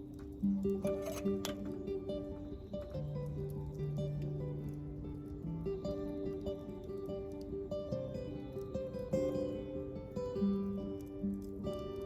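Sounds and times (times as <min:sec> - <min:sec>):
guitar plucked notes ringing: 0:00.0 - 0:12.0.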